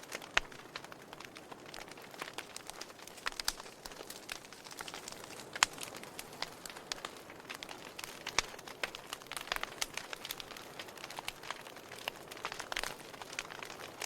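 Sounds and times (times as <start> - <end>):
logs crackling and popping: 0.0 - 14.0
wood fire hissing: 0.0 - 14.0.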